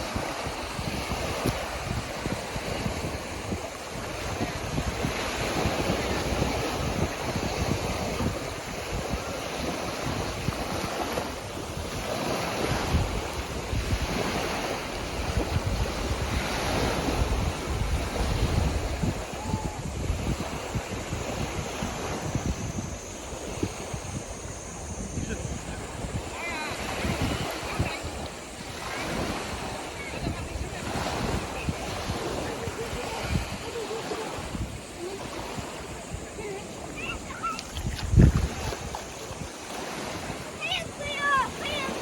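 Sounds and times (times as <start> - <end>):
sea waves breaking on beach: 0.0 - 42.0
wind buffeting microphone: 0.0 - 42.0.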